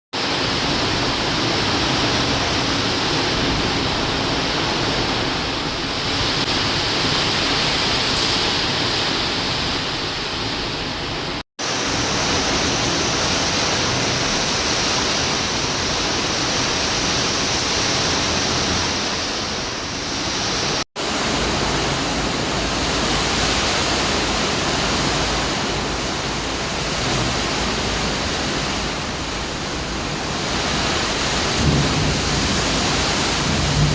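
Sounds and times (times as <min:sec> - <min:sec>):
heavy rain pouring: 0:00.2 - 0:33.9.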